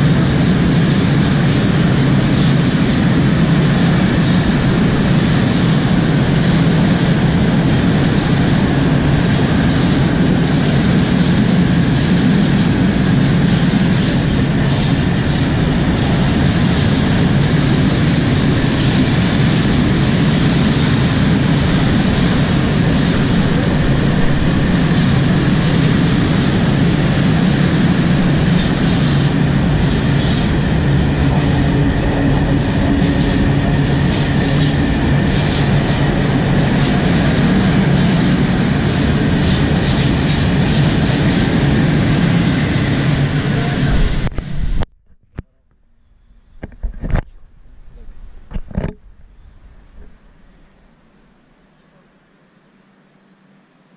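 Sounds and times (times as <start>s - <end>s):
steel wheels rumbling on rails: 0.0s - 44.8s.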